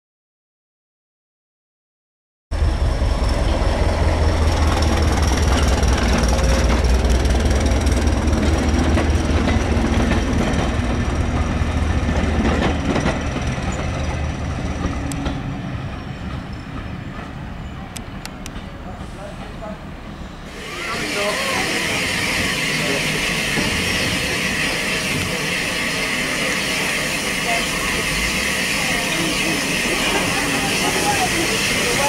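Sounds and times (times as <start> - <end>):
train rumbling past: 2.5 - 32.0.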